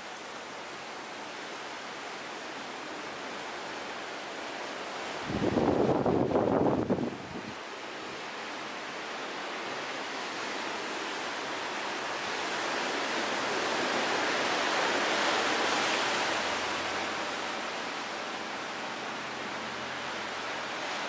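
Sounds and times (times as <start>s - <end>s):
sea: 0.0s - 21.0s
wind: 0.0s - 21.0s.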